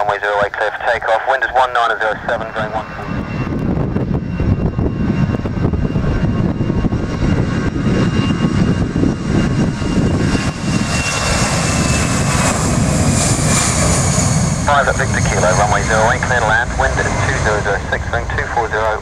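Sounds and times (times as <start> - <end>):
aircraft engines at takeoff: 0.0 - 19.0
wind buffeting microphone: 2.1 - 19.0.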